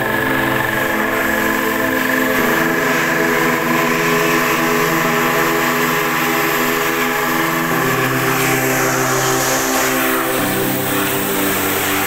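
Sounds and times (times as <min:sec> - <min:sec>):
sustained horn-like chords: 0:00.0 - 0:12.0.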